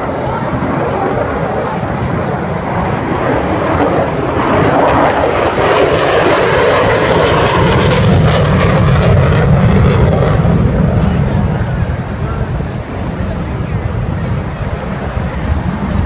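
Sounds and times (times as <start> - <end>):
jet engine roar flying overhead: 0.0 - 16.0.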